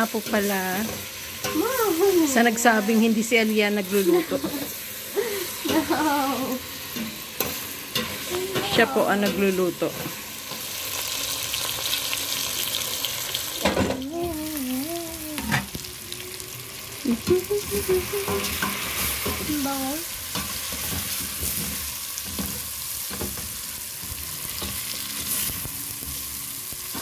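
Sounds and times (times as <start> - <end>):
food sizzling in a pot: 0.0 - 27.0.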